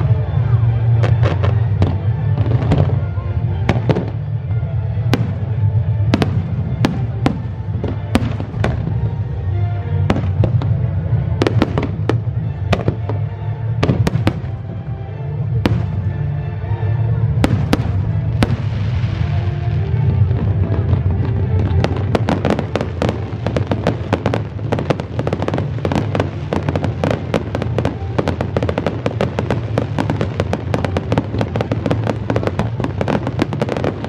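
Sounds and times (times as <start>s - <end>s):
music: 0.0s - 34.0s.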